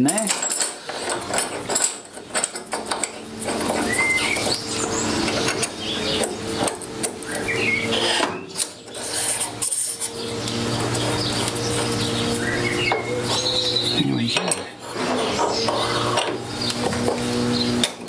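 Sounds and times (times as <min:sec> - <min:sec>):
metal rubbing and scraping: 0:00.0 - 0:18.0.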